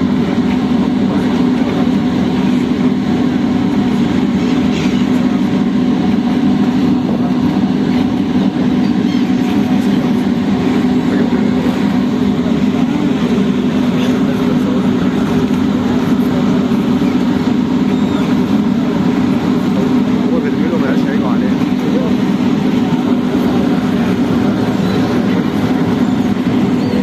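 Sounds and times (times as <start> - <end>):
ferry engine droning: 0.0 - 27.0.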